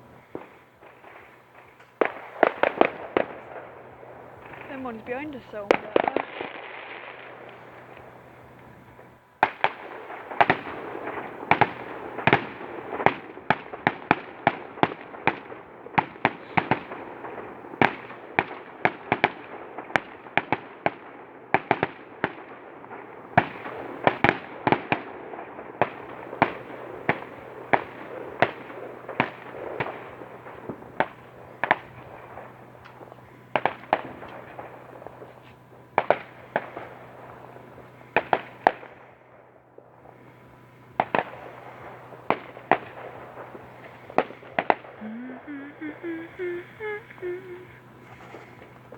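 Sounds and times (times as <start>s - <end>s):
fireworks bangs: 0.0s - 39.2s, 39.8s - 48.9s
fireworks crackling: 0.0s - 48.9s.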